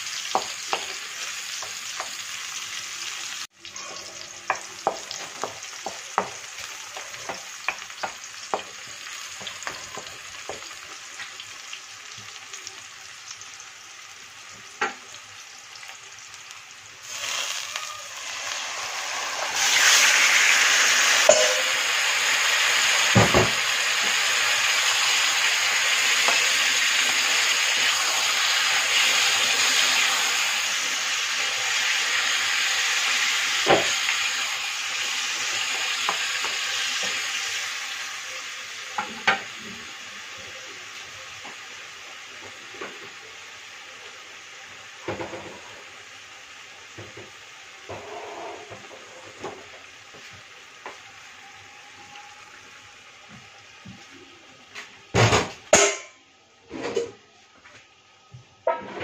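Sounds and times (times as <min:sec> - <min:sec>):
chicken sizzling in a frying pan: 0:00.0 - 0:59.0.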